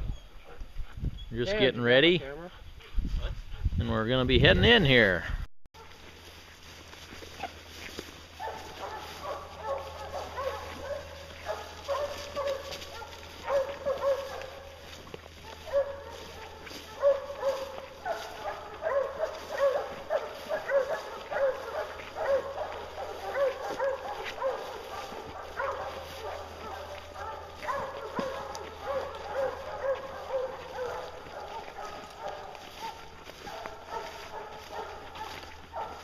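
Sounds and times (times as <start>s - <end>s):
hounds barking: 0.0s - 3.7s, 5.8s - 36.0s.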